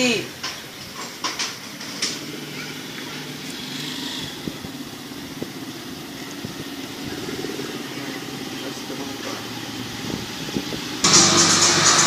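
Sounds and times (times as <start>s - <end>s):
street noise: 0.0s - 12.0s
engine running hum: 0.4s - 12.0s.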